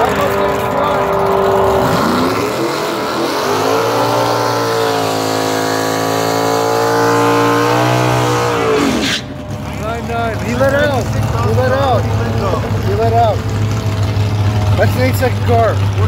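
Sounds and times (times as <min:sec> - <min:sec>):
car engine revving high: 0:00.0 - 0:16.0.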